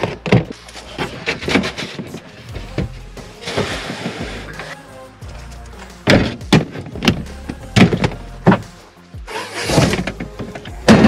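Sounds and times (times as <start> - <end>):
background music with beat: 1.5 - 11.0.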